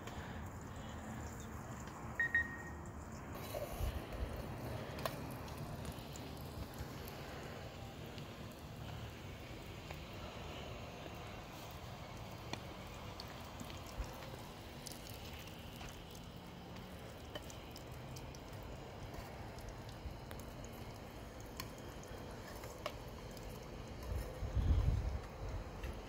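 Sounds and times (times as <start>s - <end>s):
oil popping: 3.1s - 26.0s
oil sizzling in a frying pan: 3.4s - 24.4s.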